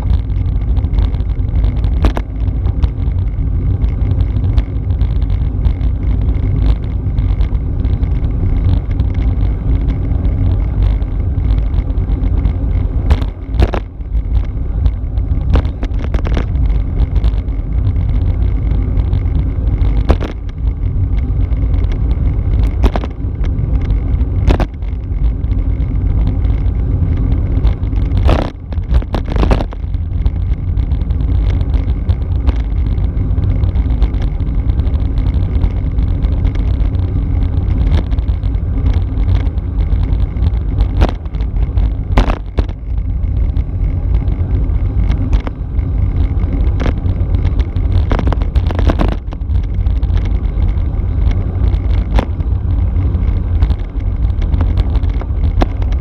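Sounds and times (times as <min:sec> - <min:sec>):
steady hum: 0:00.0 - 0:56.0
wind rushing over microphone: 0:00.0 - 0:56.0.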